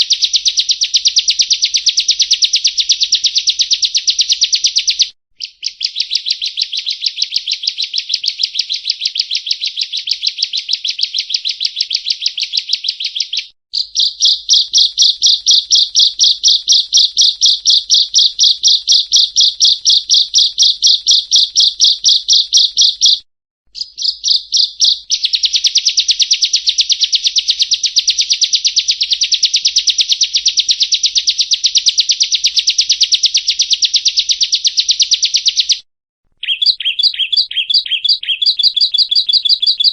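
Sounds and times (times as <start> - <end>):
bird song of rapid high sharp notes: 0.0 - 39.9.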